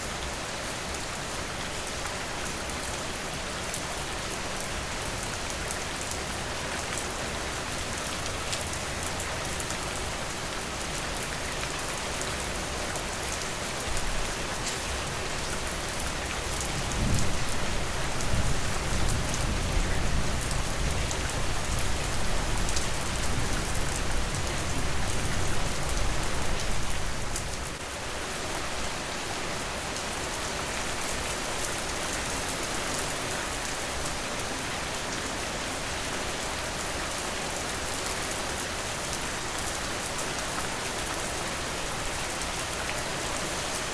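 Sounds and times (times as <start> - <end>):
rain falling on a porch: 0.0 - 43.9.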